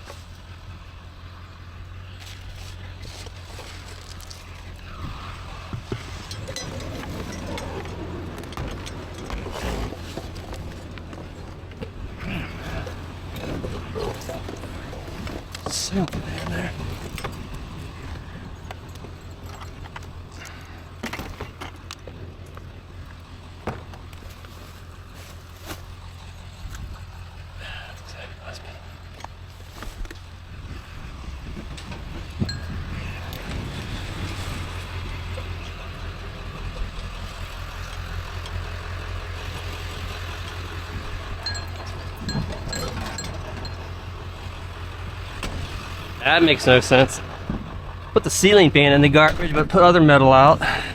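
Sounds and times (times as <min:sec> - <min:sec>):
vehicle engine running: 0:00.0 - 0:50.9
scrap metal clinking and rattling: 0:02.1 - 0:48.5.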